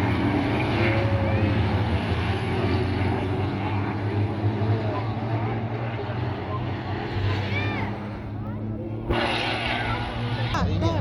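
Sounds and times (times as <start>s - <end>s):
steady low engine drone: 0.0s - 11.0s.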